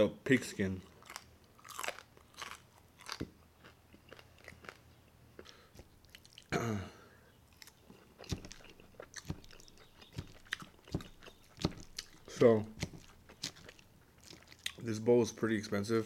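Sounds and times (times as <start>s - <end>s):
chewing and crunching: 0.8s - 6.5s, 7.4s - 14.9s.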